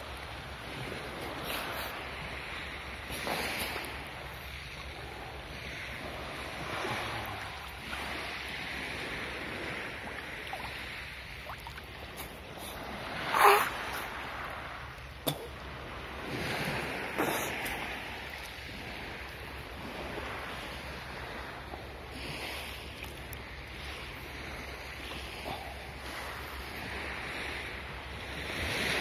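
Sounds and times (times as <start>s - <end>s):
sea water lapping: 0.0s - 29.0s.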